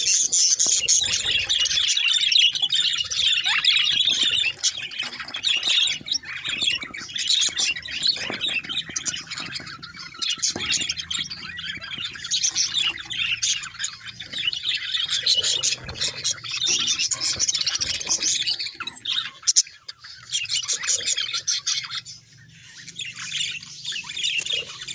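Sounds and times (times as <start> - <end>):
bird squawk: 0.0 - 24.9
budgerigars chirping and chattering: 0.0 - 24.9.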